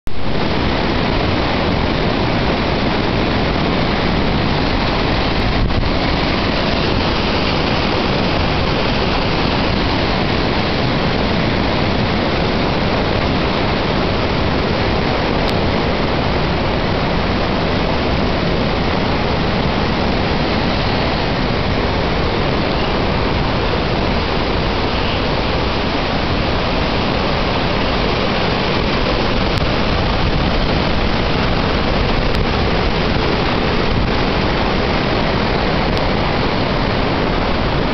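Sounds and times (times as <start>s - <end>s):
water rushing over a weir: 0.1s - 37.9s.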